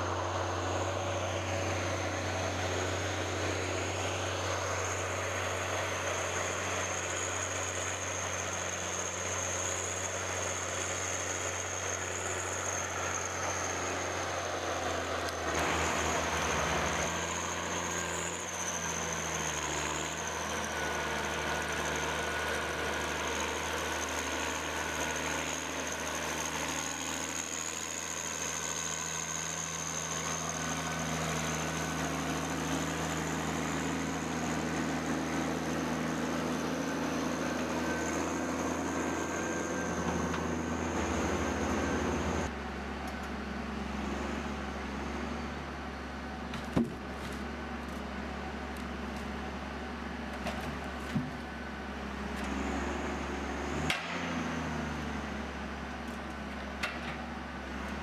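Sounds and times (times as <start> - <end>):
engine hum with high whine: 0.0 - 58.0.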